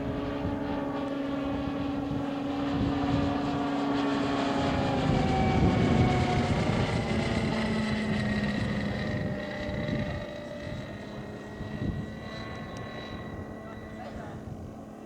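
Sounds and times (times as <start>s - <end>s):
model plane engine drone: 0.0s - 15.0s.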